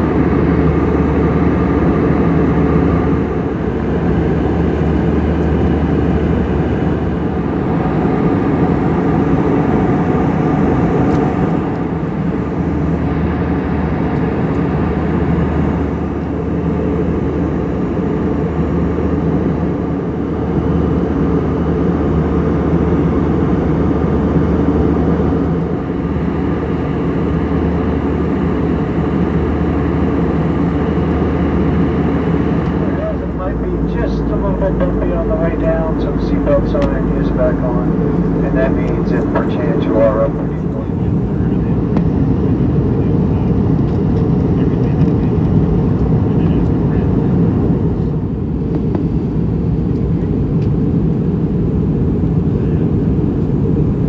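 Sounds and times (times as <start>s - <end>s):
aircraft cabin engine drone: 0.0s - 54.0s.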